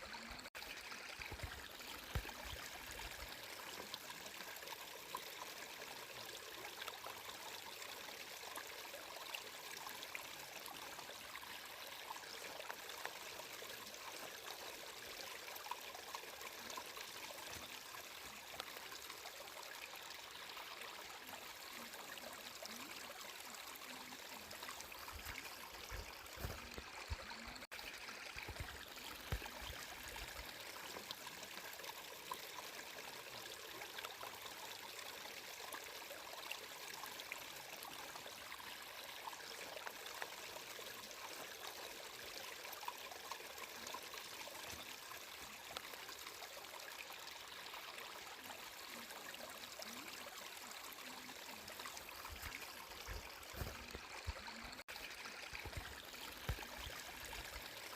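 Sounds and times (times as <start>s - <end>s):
stream trickling and splashing: 0.0s - 57.9s.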